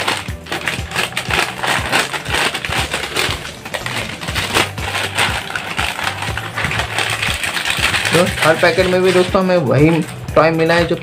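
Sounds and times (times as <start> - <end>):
scissors cutting: 0.0 - 10.2
plastic snack packet crinkling: 0.0 - 11.0.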